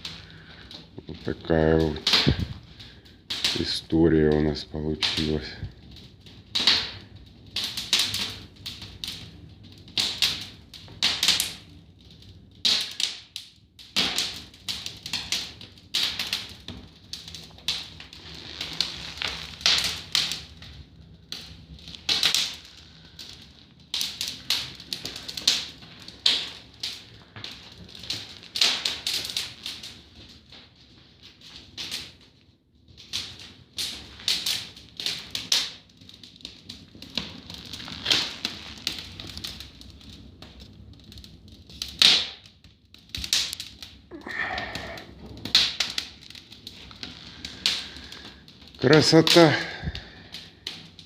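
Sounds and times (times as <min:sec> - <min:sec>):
firewood crackling and popping: 0:00.0 - 0:51.0.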